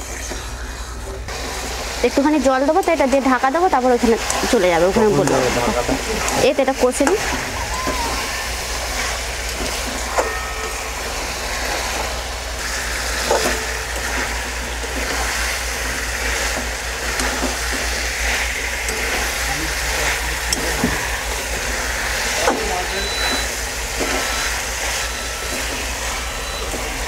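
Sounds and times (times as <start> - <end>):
chicken sizzling in a pan: 1.3 - 27.0.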